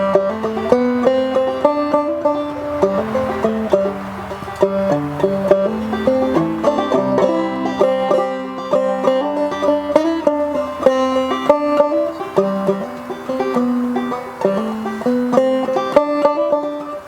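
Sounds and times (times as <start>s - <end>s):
picked notes on plucked strings: 0.0s - 17.0s.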